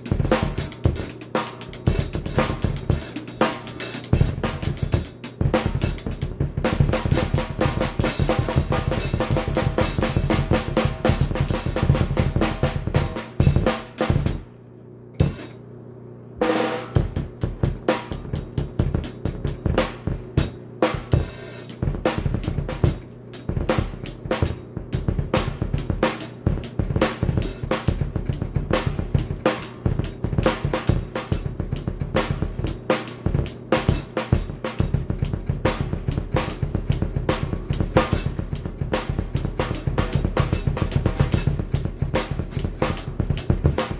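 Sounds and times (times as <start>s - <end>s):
cymbals: 0.0s - 14.4s, 15.2s - 15.6s, 16.4s - 43.9s
fast double bass drum: 0.0s - 14.4s, 16.8s - 43.9s
snare drum: 0.0s - 14.5s, 15.2s - 15.6s, 16.4s - 43.9s.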